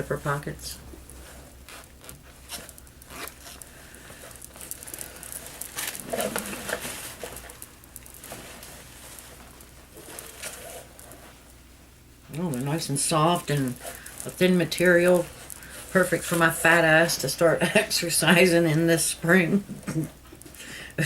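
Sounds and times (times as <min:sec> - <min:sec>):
fabric rustling and crinkling: 0:00.1 - 0:20.6.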